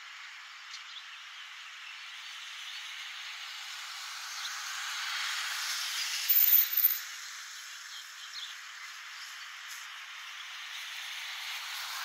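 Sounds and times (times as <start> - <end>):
tyres hissing on wet road: 1.4 - 6.3, 7.1 - 12.0.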